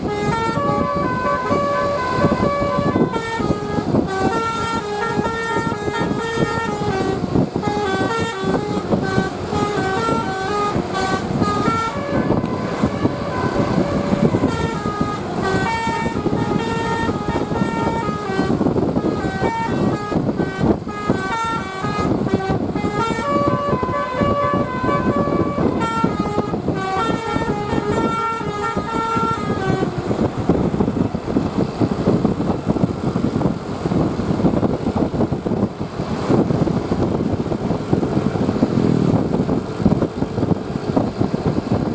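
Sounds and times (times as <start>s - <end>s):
musical bus horn playing a tune: 0.0s - 35.7s
bus engine running: 0.0s - 41.9s.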